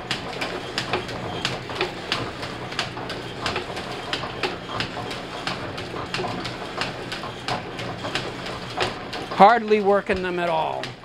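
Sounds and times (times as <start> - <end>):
metal shaper running: 0.0 - 11.0
rhythmic clicking: 0.1 - 11.0.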